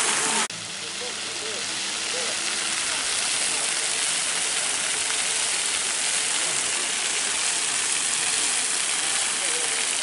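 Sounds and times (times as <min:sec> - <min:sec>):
fountain water splashing: 0:00.0 - 0:10.0.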